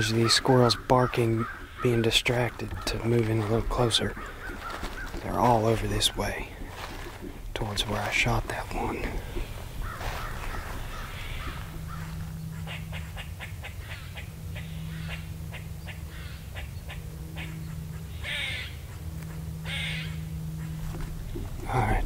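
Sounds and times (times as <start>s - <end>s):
crows cawing: 0.0s - 22.0s
squirrels barking: 0.0s - 22.0s.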